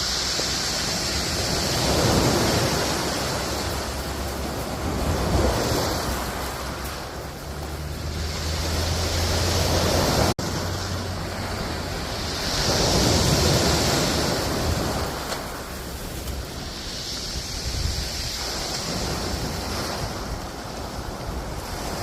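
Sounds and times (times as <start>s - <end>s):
sea waves washing onto shore: 0.0s - 22.0s
wind rumbling on microphone: 0.0s - 22.0s.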